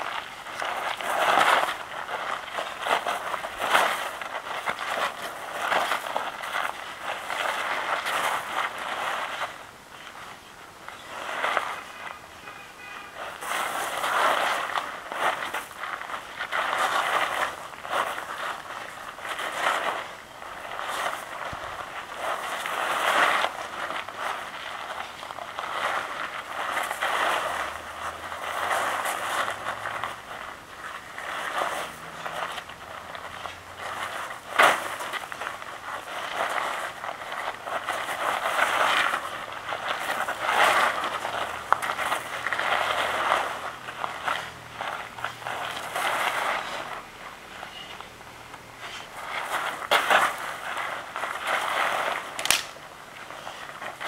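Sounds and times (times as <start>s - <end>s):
feet crunching on gravel: 0.0s - 10.3s, 13.0s - 54.0s.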